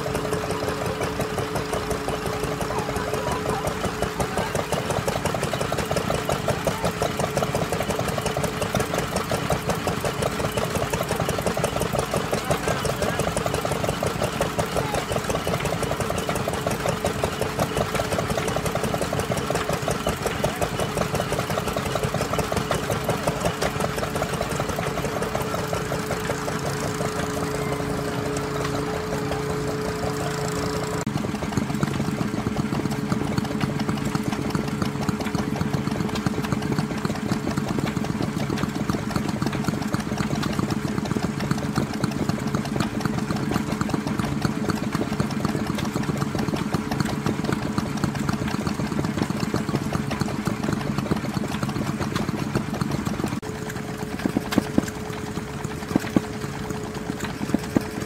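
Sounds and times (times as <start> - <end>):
small stationary engine running: 0.0 - 58.0
stationary engines chugging: 0.0 - 58.0.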